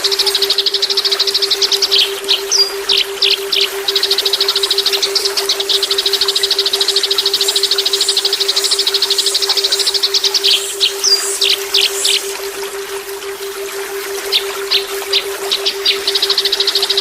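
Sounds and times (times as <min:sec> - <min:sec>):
songbird trill: 0:00.0 - 0:17.0
steady low tone: 0:00.0 - 0:17.0.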